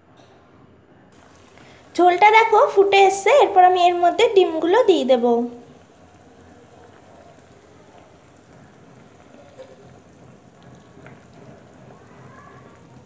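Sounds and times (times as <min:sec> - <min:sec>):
gravy bubbling in pan: 0:01.2 - 0:13.0.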